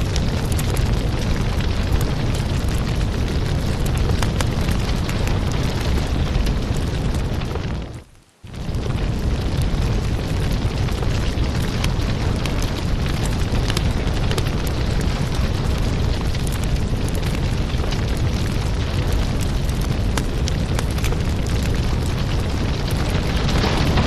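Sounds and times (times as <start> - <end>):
fire rumbling: 0.0 - 24.0
wood crackling and popping: 0.0 - 24.0.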